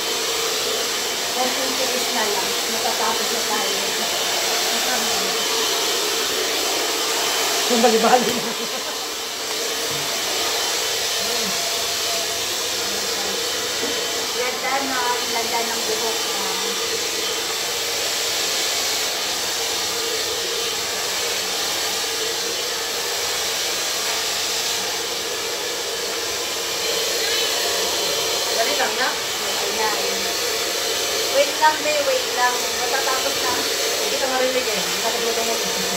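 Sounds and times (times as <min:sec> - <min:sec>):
hair dryer running: 0:00.0 - 0:35.9.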